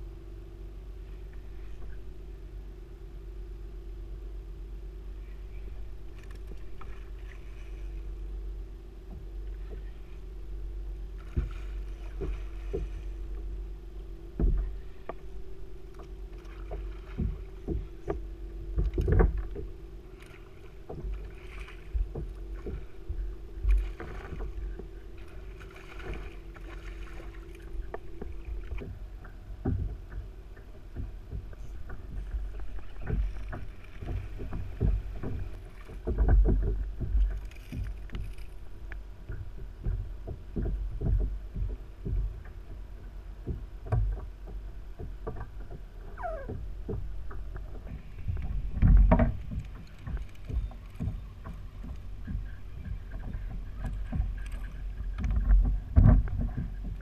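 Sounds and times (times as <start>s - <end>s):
low rumble: 0.0s - 57.0s
steady hum: 0.0s - 57.0s.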